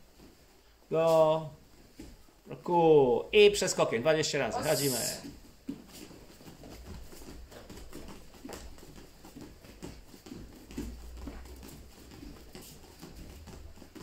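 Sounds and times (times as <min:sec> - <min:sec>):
bare feet thudding on mats: 0:00.0 - 0:02.5, 0:04.6 - 0:14.0.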